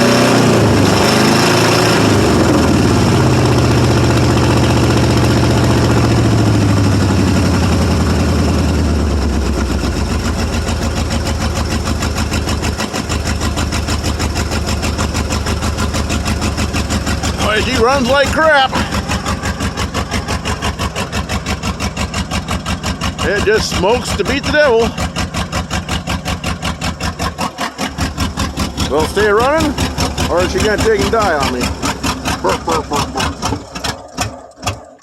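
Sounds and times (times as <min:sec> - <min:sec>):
truck engine idling roughly: 0:00.0 - 0:35.0.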